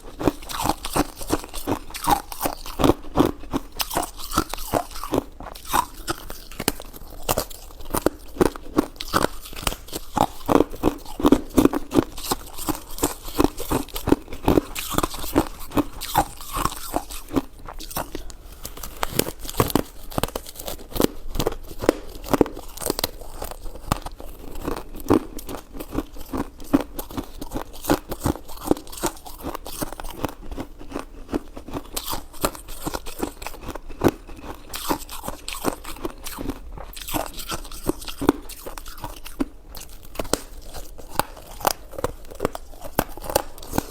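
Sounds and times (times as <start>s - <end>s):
chewing and biting crunches: 0.0s - 43.9s.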